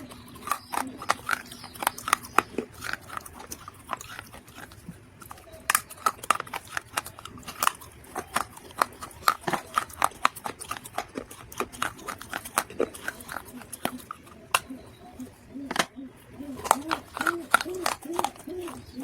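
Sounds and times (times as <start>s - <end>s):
chewing dry clay crunches: 0.0s - 19.0s.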